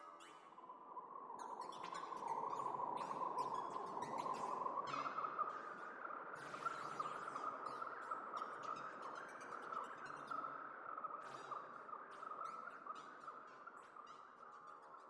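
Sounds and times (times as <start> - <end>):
bird-like synth chirps: 0.0 - 15.0.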